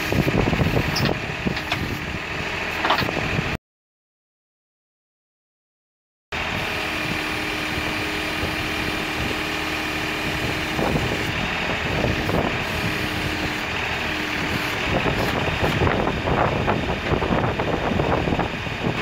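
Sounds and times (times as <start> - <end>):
tractor diesel engine running: 0.0 - 3.6, 6.4 - 19.0.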